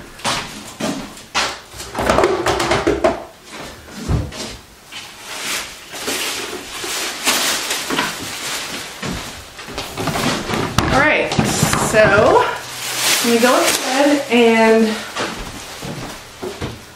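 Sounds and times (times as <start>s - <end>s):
household items clattering: 0.8s - 16.9s.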